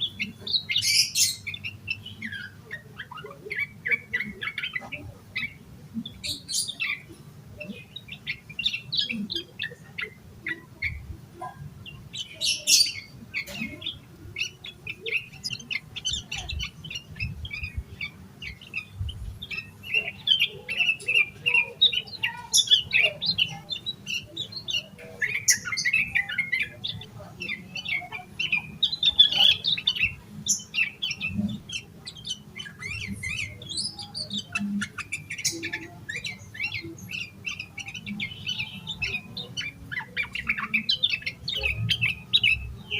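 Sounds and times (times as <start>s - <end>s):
bird chattering song: 0.0s - 42.9s.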